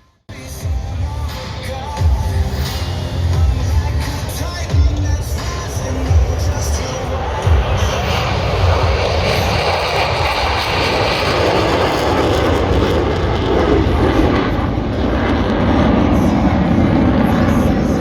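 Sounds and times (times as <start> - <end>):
military jet roaring past: 1.2 - 18.0.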